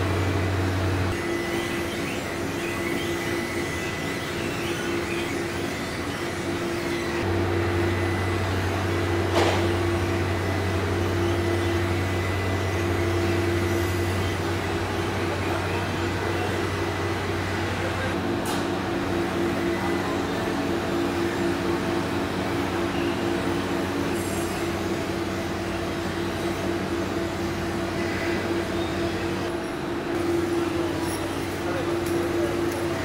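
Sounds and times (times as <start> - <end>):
machinery humming and rushing: 0.0 - 33.0.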